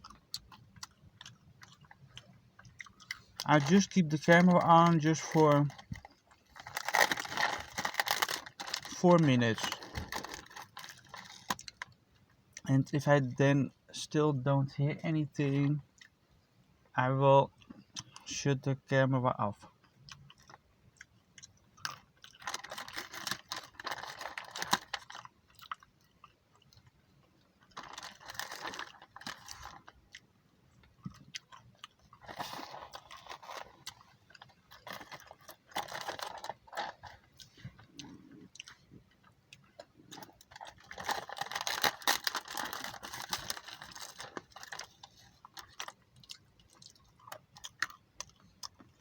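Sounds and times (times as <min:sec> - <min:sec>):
person chewing crunchy food: 0:00.0 - 0:12.7, 0:19.8 - 0:49.0.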